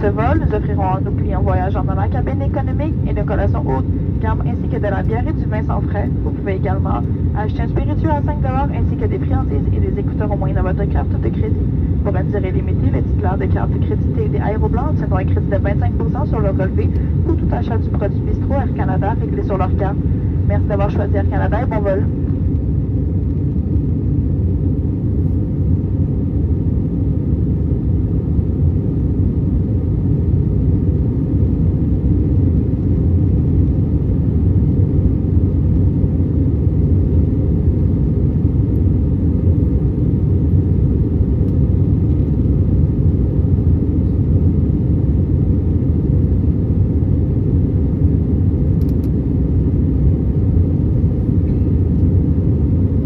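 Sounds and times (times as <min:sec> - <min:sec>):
jet engine cabin rumble: 0:00.0 - 0:53.0.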